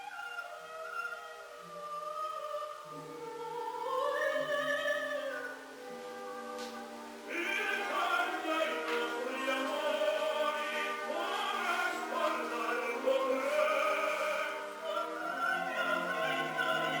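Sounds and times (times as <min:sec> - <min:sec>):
operatic singing with orchestra: 0:00.0 - 0:06.3, 0:07.2 - 0:17.0.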